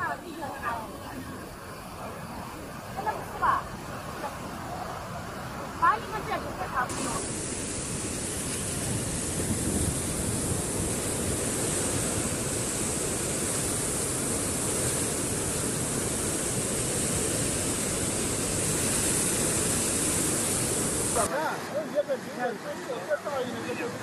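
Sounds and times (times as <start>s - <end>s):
flood water rushing: 0.0s - 24.0s.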